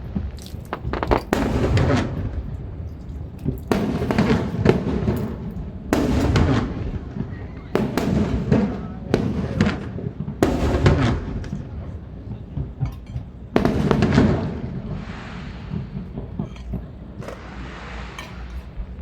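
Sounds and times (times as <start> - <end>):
firework crackles: 0.0 - 19.0
fireworks bangs with rumble: 0.0 - 19.0.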